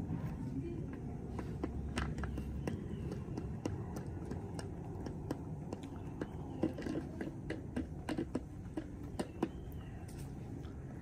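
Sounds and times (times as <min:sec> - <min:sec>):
chickens pecking at feed: 0:00.8 - 0:11.0.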